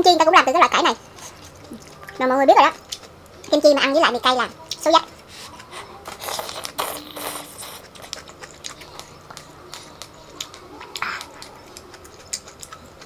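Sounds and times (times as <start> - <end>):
wet chewing clicks: 1.3 - 3.6, 4.5 - 13.0.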